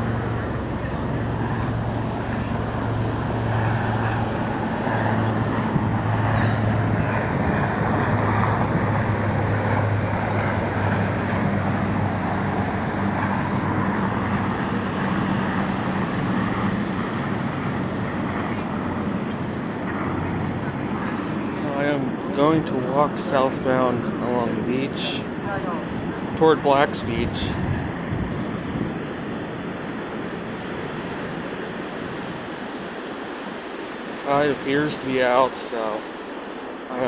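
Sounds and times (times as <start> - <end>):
ocean surf rushing: 0.0 - 37.0.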